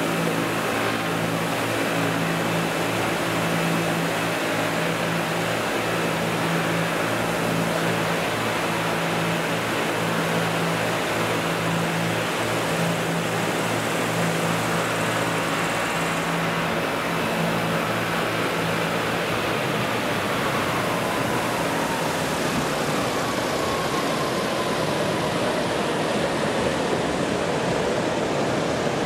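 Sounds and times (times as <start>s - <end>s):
hall noise roar: 0.0s - 29.0s.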